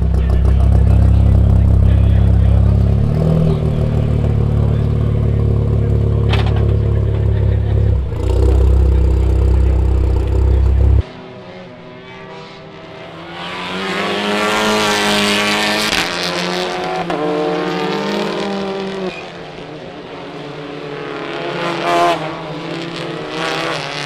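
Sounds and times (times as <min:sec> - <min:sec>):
racing car engines passing: 0:00.0 - 0:24.0.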